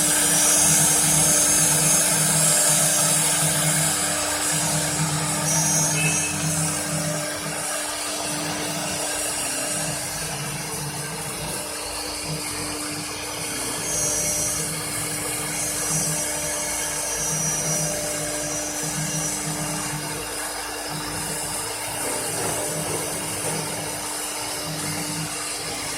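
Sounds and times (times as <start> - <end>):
machining noise: 0.0 - 24.8
router spindle whining: 0.0 - 25.9.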